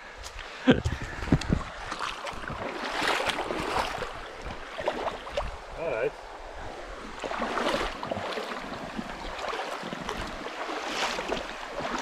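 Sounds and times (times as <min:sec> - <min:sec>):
running water rushing: 0:01.0 - 0:12.0
water splashing: 0:01.2 - 0:12.0.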